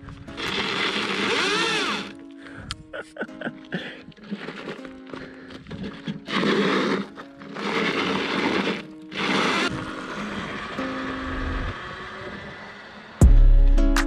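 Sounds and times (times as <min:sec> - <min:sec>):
background music: 0:00.0 - 0:11.8, 0:13.2 - 0:14.0.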